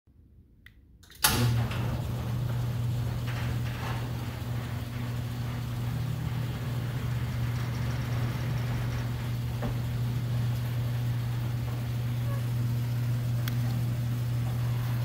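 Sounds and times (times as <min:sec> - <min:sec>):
door hoist motor hum: 0:01.0 - 0:15.0.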